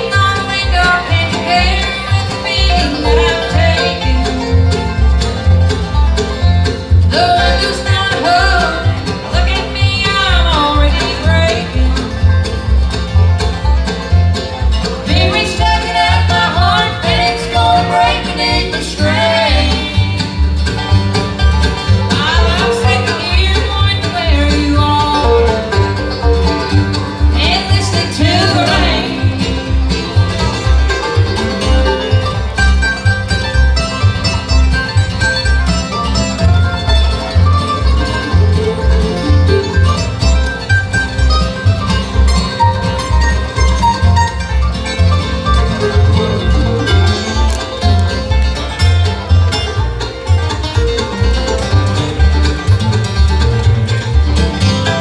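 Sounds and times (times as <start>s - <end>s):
banjo: 0.0s - 55.0s
guitar: 0.0s - 55.0s
low bass beat: 0.0s - 55.0s
sliding melody notes: 0.0s - 55.0s.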